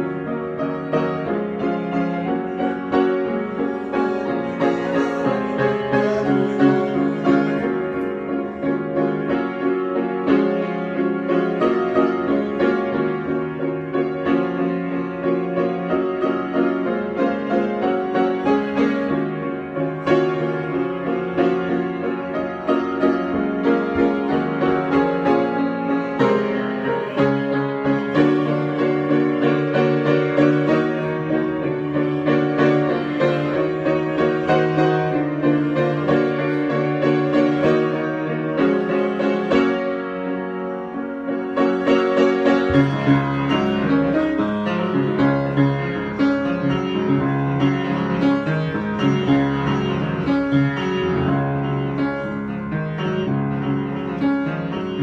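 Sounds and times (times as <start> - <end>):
piano improvisation: 0.0 - 55.0.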